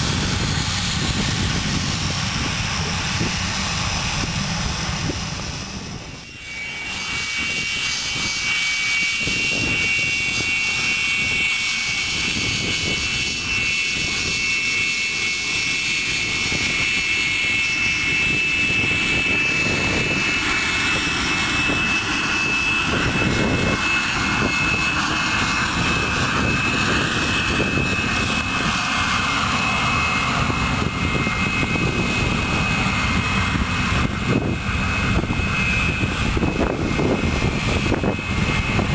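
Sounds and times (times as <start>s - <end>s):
aircraft engines running: 0.0s - 38.9s
high engine whine: 0.0s - 38.9s.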